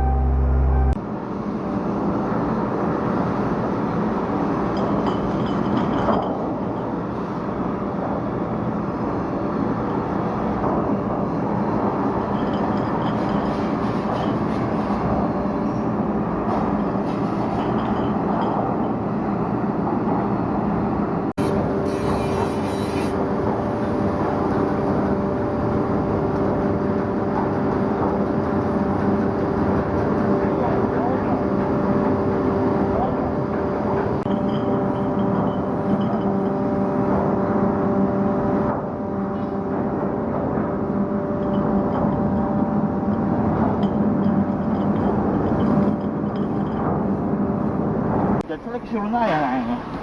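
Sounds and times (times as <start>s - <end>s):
anchor windlass machinery hum: 0.0s - 50.0s.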